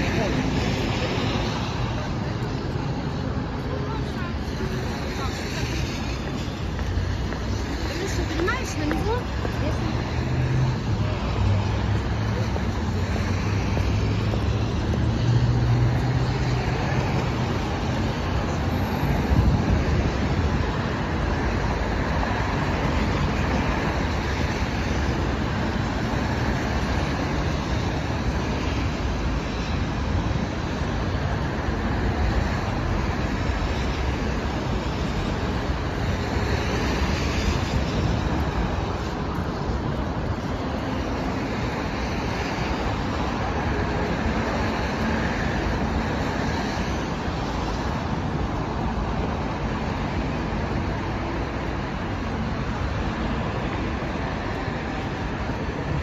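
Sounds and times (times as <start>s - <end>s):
cars on a wet road: 0.0s - 56.0s.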